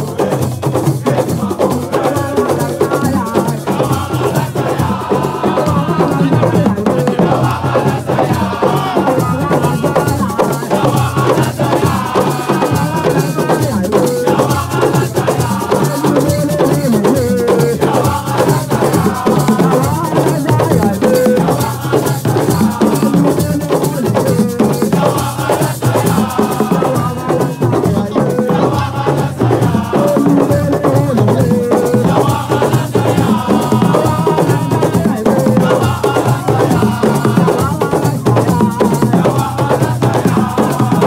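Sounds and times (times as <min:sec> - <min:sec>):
drums: 0:00.0 - 0:41.0.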